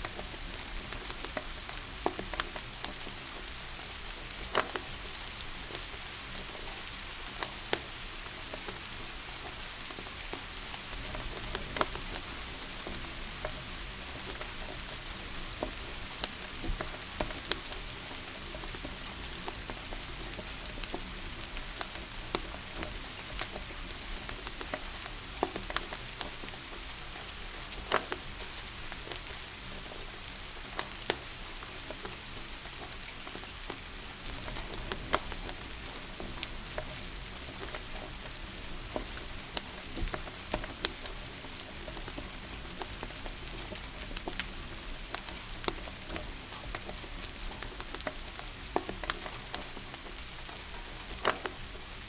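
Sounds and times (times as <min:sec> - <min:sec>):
rain hissing: 0:00.0 - 0:52.0
wood fire popping and crackling: 0:00.0 - 0:52.0.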